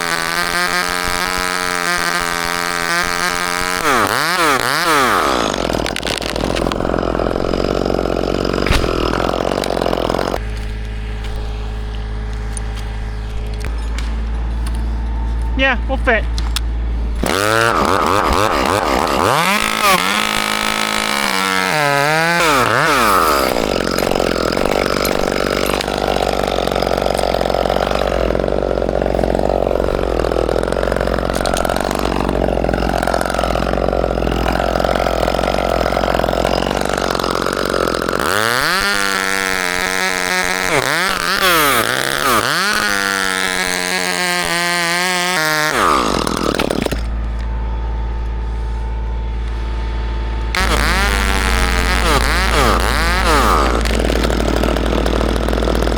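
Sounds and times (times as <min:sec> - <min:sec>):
chainsaw revving: 0:00.0 - 0:14.8, 0:15.4 - 0:47.4, 0:50.4 - 0:55.9.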